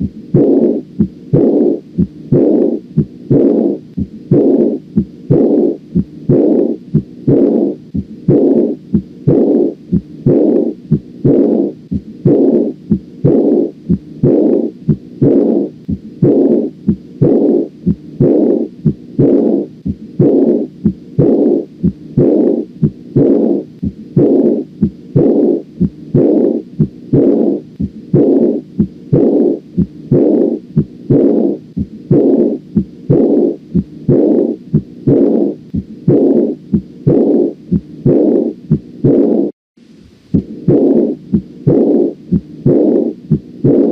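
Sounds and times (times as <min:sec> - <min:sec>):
heartbeat with rushing murmur: 0:00.0 - 0:43.9.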